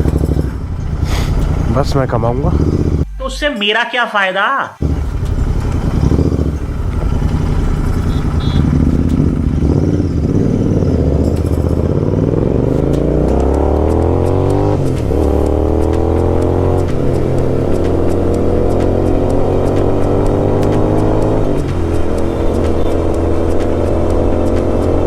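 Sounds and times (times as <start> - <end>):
motorcycle engine accelerating: 0.0 - 3.3, 4.8 - 25.0.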